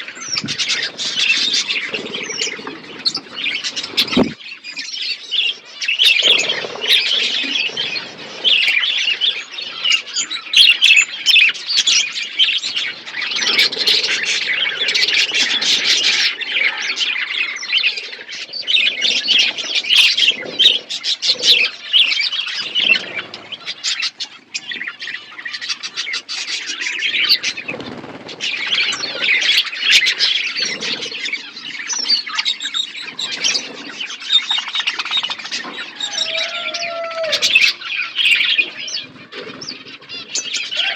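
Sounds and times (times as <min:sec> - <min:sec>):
small birds chirping and squawking: 0:00.0 - 0:40.9.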